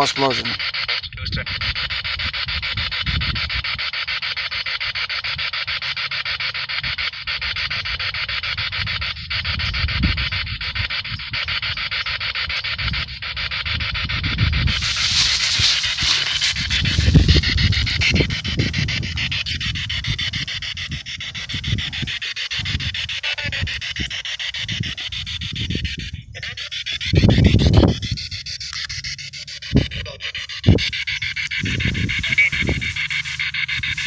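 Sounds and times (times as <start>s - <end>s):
radio static sweeping: 0.0s - 34.0s.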